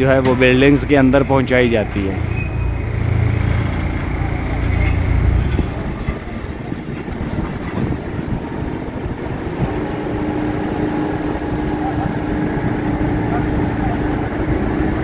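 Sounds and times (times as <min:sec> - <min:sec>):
engine rumble: 0:00.0 - 0:15.0
hydraulic whine: 0:02.2 - 0:15.0.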